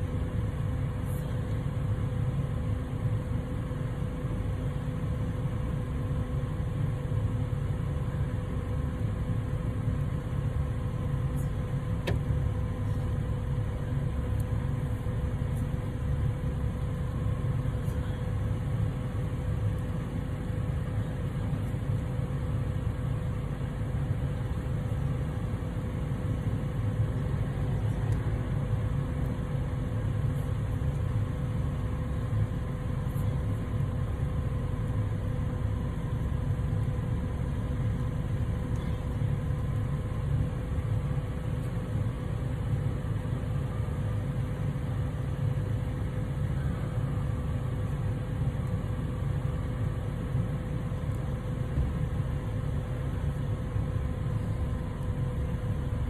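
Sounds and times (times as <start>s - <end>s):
constant mid-pitched tone: 0.0s - 56.0s
low mechanical hum: 0.0s - 56.0s.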